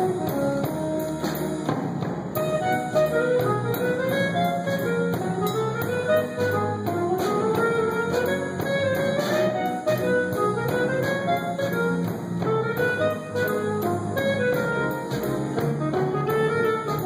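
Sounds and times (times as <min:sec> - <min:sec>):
bass: 0:00.0 - 0:17.0
drums: 0:00.0 - 0:17.0
horn melody: 0:00.0 - 0:17.0.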